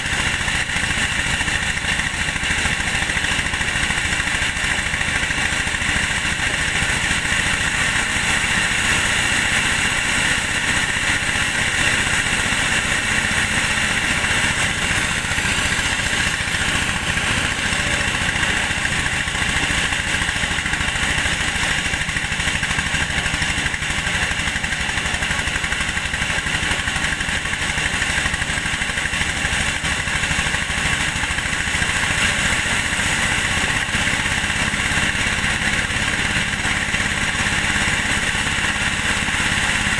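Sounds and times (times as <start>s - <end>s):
engine-driven thresher running: 0.0s - 39.9s.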